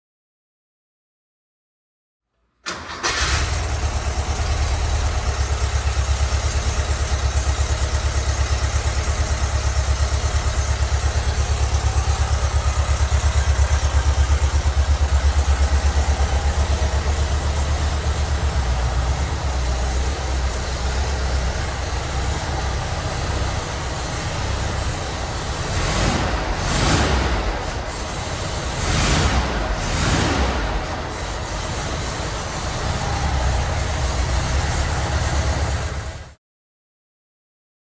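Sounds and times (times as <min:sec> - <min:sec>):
car engine starting and idling: 0:02.6 - 0:36.4
engine revving: 0:02.7 - 0:36.3.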